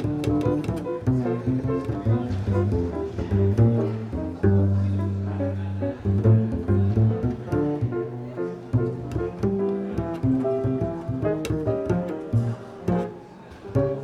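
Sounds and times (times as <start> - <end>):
jazz piano chords: 0.0 - 14.0
plucked double bass walking line: 0.0 - 14.0.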